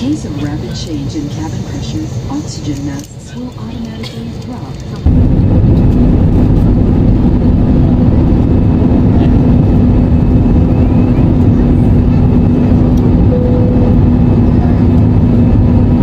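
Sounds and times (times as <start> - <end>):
jet engines roaring in cabin: 0.0 - 16.0
steady low hum: 0.0 - 16.0.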